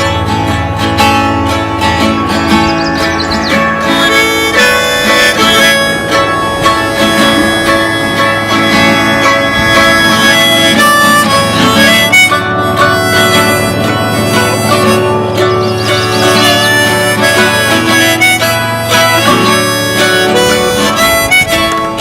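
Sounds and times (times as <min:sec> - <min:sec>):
acoustic guitar: 0:00.0 - 0:22.0
folk band instrumental: 0:00.0 - 0:22.0.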